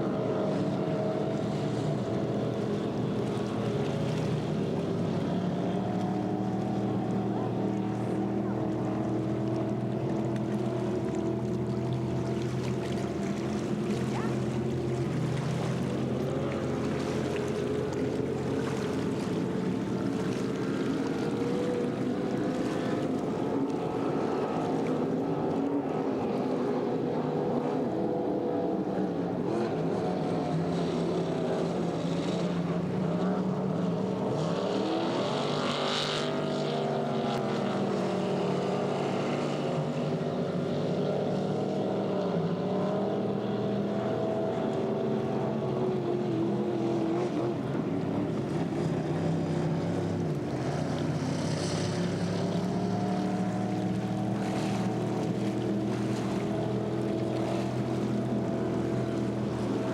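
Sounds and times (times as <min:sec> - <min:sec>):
race boat engines: 0:00.0 - 0:59.9.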